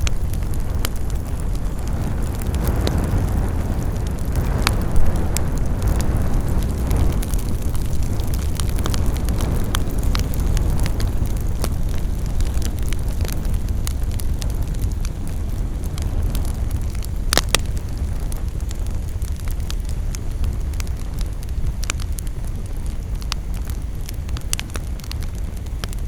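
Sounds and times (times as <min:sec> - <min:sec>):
campfire crackling and popping: 0:00.0 - 0:26.0
low fire rumble: 0:00.0 - 0:26.0.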